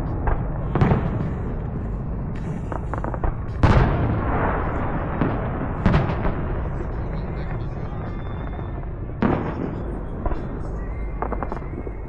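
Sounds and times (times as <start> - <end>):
fireworks bang: 0.0 - 12.0
fireworks crackling: 0.0 - 12.0
low rumble: 0.0 - 12.0.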